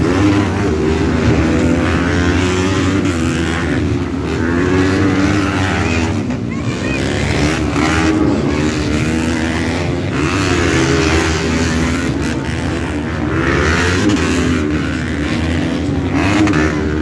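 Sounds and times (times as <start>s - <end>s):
motorbike engines revving: 0.0s - 17.0s.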